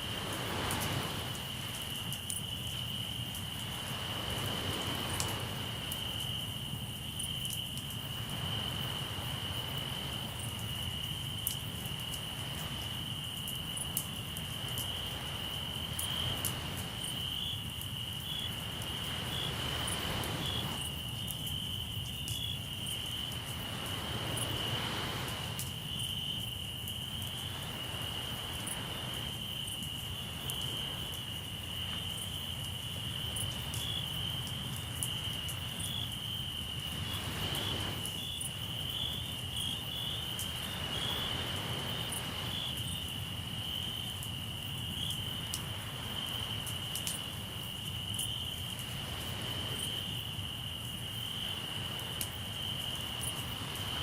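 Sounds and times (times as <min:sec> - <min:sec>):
surf waves: 0:00.0 - 0:02.3, 0:03.3 - 0:06.7, 0:08.1 - 0:11.1, 0:13.8 - 0:17.7, 0:18.5 - 0:21.0, 0:22.8 - 0:44.2, 0:45.1 - 0:50.2, 0:51.2 - 0:54.0
campfire crackling: 0:00.0 - 0:54.0
crickets chirping: 0:00.0 - 0:54.0.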